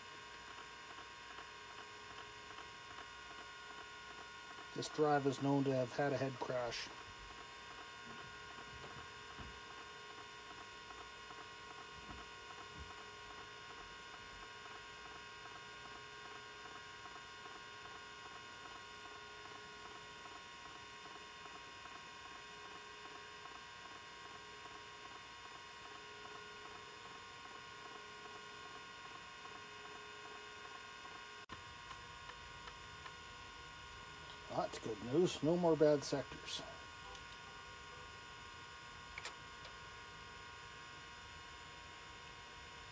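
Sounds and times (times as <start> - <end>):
hard drive whining hum: 0.0 - 42.9.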